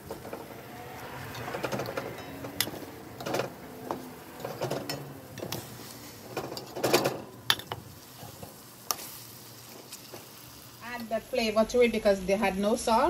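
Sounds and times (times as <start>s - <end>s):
faint sizzle: 0.0s - 13.0s.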